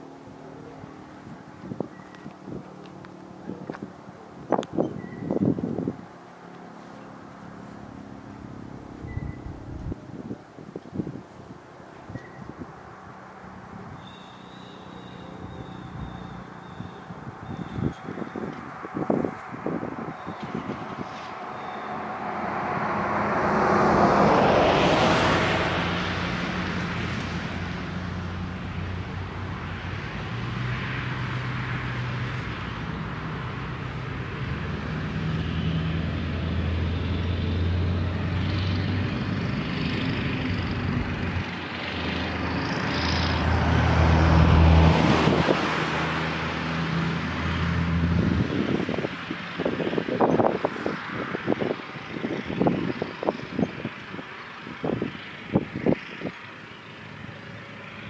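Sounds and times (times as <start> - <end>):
low engine hum: 0.0 - 58.0
road vehicles passing: 0.0 - 58.0.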